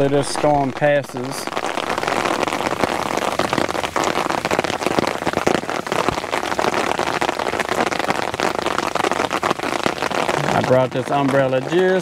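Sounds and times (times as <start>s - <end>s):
rain pattering on umbrella: 0.0s - 12.0s.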